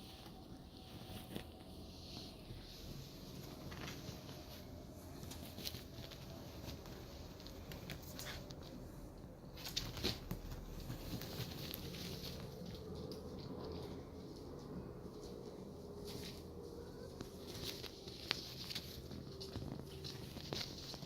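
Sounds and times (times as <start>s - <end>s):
low steady background noise: 0.0s - 21.0s.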